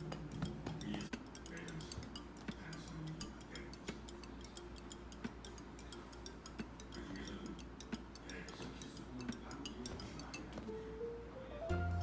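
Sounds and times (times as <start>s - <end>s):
quiet music with ticking beat: 0.0s - 12.0s.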